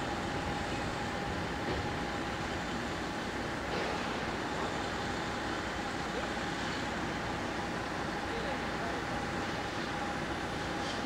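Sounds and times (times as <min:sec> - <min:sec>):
diesel locomotive engines running: 0:00.0 - 0:11.0
steady whine: 0:00.0 - 0:11.0.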